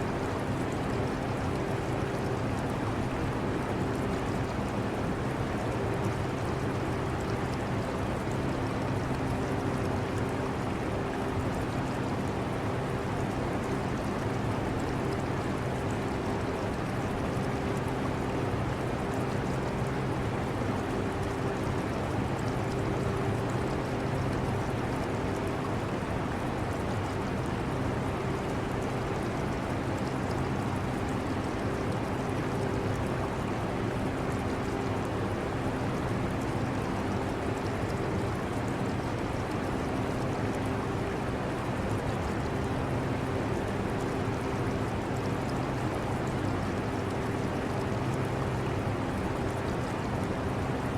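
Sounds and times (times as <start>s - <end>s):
aquarium water trickling: 0.1s - 50.9s.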